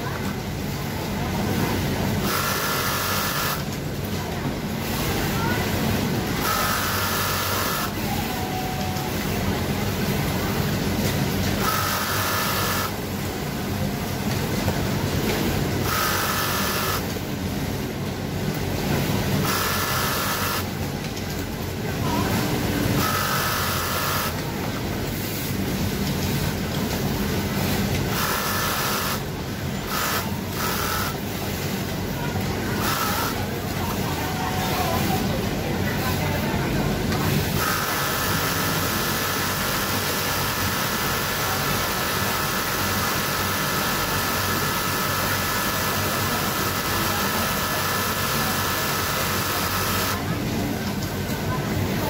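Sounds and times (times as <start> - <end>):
factory machines humming: 0.0 - 52.0.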